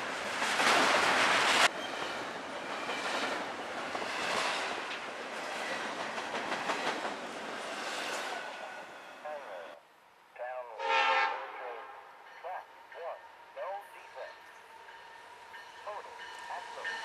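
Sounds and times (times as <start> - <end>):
freight train rumbling past: 0.0 - 9.8, 10.8 - 17.0.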